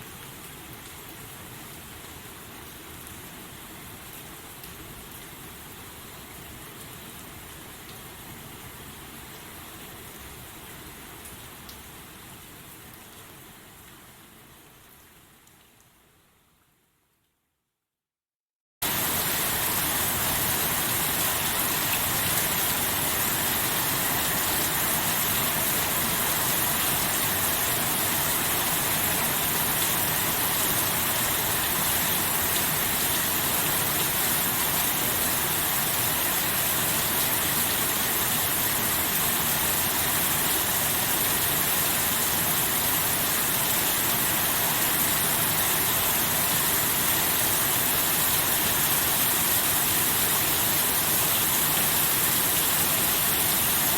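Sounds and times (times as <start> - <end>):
steady rain: 0.0 - 17.4, 18.8 - 53.9.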